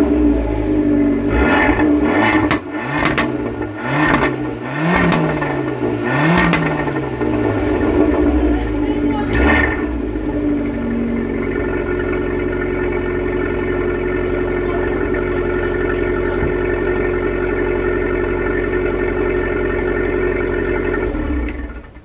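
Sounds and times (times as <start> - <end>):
car engine and exhaust running: 0.0 - 22.0.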